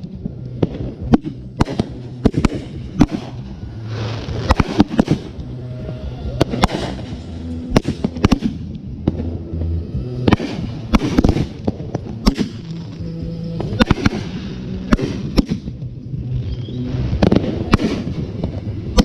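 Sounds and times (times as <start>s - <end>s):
fireworks bangs: 0.0s - 13.0s, 13.6s - 19.0s.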